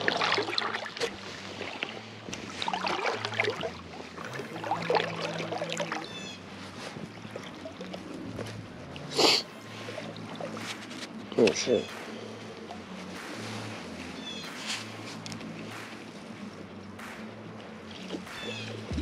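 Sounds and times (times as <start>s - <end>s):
river current rippling: 0.0s - 19.0s.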